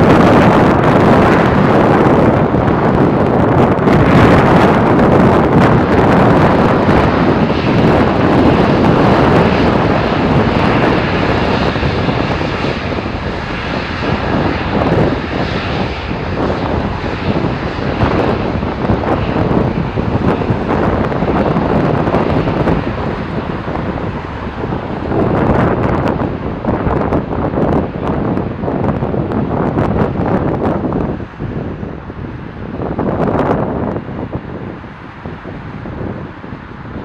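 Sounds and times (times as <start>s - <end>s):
jet engines roaring: 0.0s - 37.0s
wind buffeting microphone: 0.0s - 37.0s.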